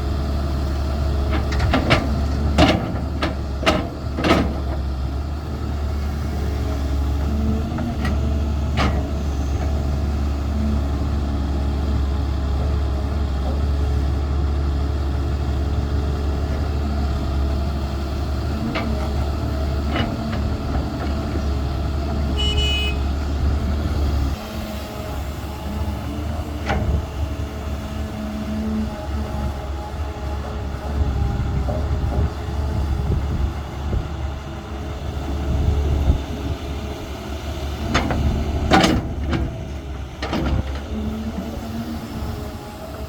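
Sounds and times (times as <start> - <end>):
excavator diesel engine droning: 0.0 - 43.0.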